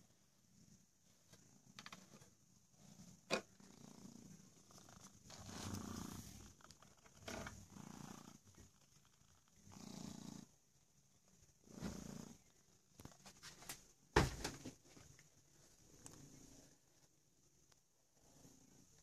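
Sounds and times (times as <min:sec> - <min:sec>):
cat purring: 0:00.0 - 0:13.3, 0:15.1 - 0:19.0.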